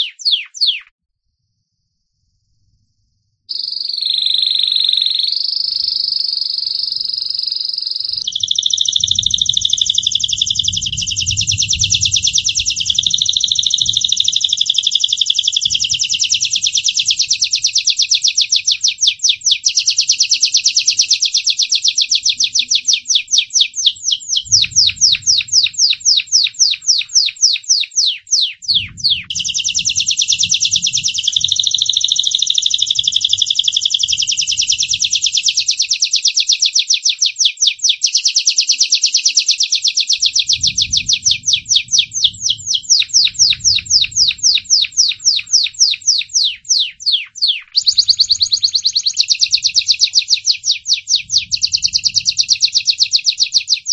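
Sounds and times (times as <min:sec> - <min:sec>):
canary singing warbled trills: 0:00.0 - 0:00.9, 0:03.5 - 0:53.9.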